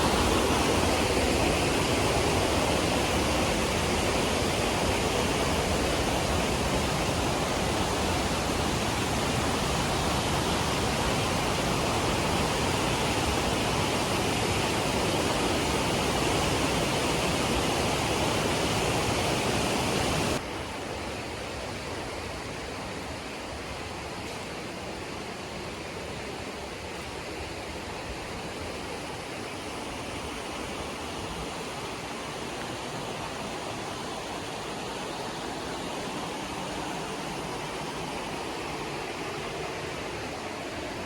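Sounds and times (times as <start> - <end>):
waterfall rushing: 0.0 - 21.0, 25.8 - 41.0.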